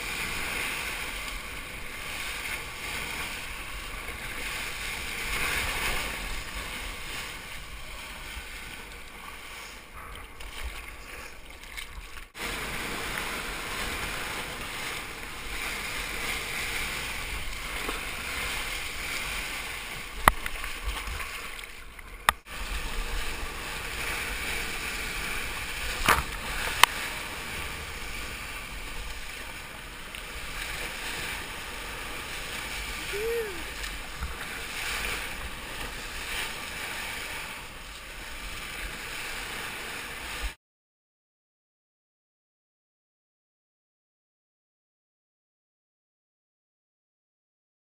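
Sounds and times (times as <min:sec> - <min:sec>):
whitewater rushing and splashing: 0:00.0 - 0:40.6.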